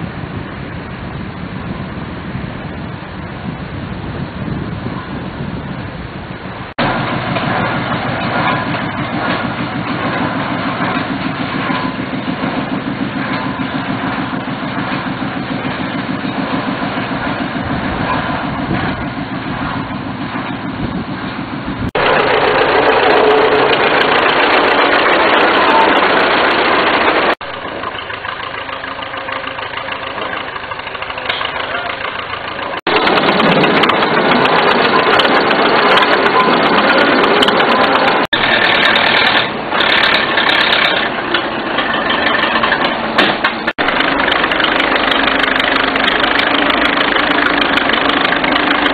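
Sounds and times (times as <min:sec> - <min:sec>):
rail tractor engine pulsing: 0:00.0 - 0:48.9.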